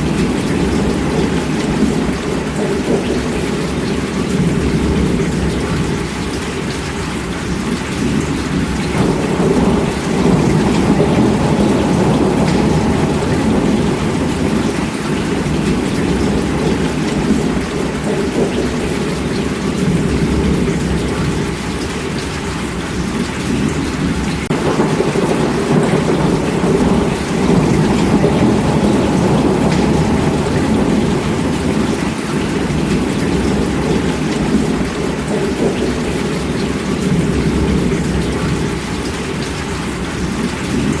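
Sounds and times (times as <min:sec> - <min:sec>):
heavy rain: 0:00.0 - 0:41.0.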